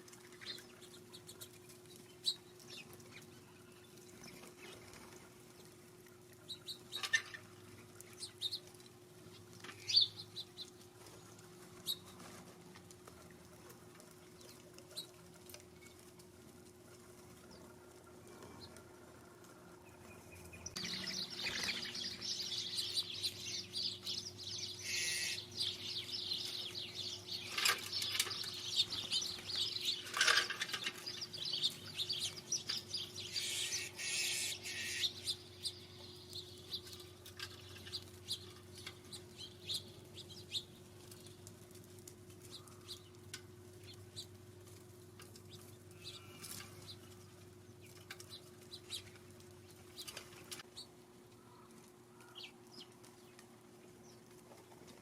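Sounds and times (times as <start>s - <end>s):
small birds chirping: 0.3s - 12.3s, 19.8s - 41.5s, 42.4s - 55.0s.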